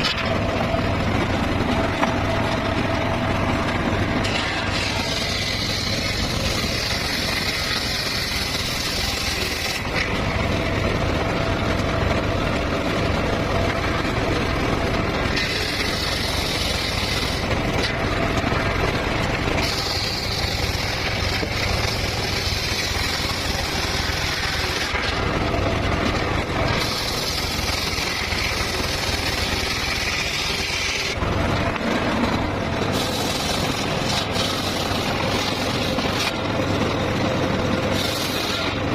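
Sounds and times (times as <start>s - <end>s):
circular saw running: 0.0s - 38.9s
saw whine cutting wood: 0.0s - 38.9s.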